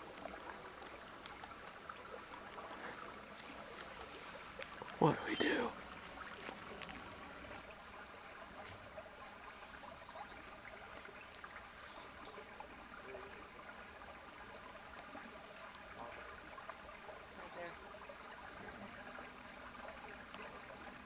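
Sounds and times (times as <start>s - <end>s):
faint outdoor background hiss: 0.0s - 21.0s.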